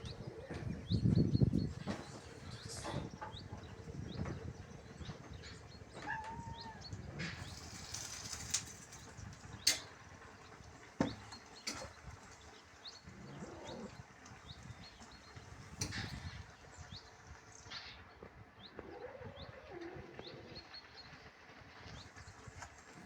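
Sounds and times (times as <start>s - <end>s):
faint chirping of small birds: 0.0s - 23.0s.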